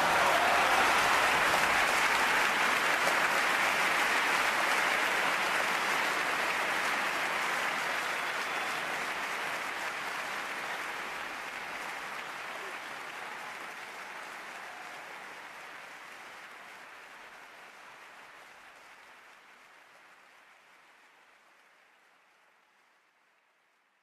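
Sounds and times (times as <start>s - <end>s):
audience applause: 0.0s - 23.8s.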